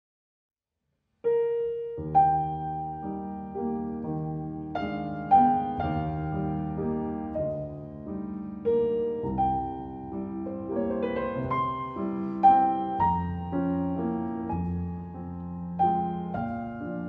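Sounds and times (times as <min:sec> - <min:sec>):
piano music: 0:01.2 - 0:17.0.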